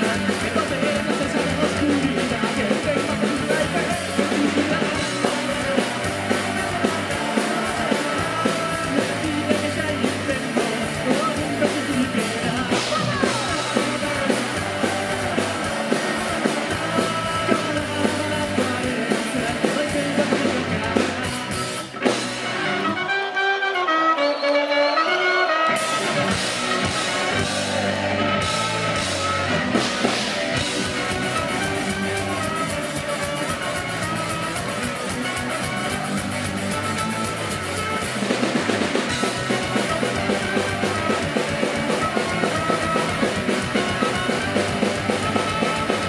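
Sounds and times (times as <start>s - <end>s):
ska-punk band playing live: 0.0s - 46.0s.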